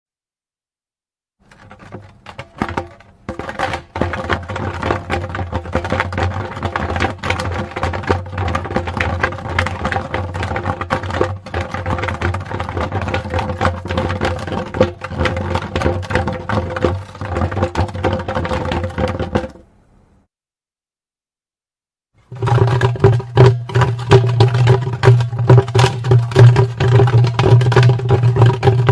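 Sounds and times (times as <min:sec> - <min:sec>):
wooden barrel scraping on ground: 0:01.4 - 0:19.6, 0:22.2 - 0:28.9.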